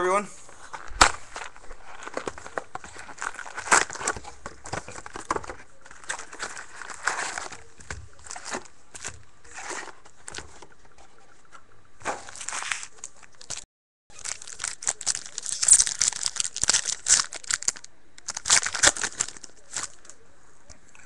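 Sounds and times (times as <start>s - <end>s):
cardboard rustling: 0.5s - 13.6s, 14.2s - 20.2s
wrappers crinkling and tearing: 0.6s - 10.5s, 12.0s - 20.2s.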